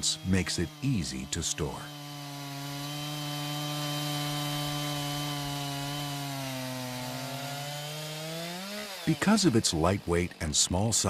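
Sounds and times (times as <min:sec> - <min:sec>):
chainsaw engine at high revs: 0:00.0 - 0:11.0.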